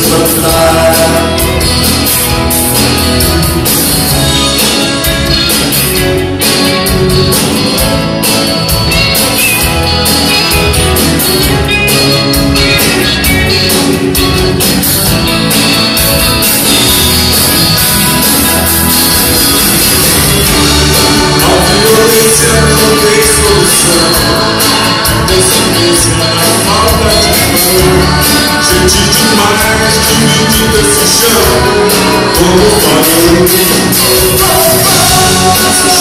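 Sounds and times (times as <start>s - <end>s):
live band playing: 0.0s - 36.0s.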